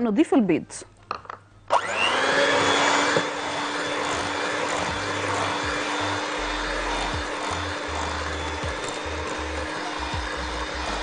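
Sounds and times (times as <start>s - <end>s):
electric hand mixer whirring: 1.7s - 11.0s.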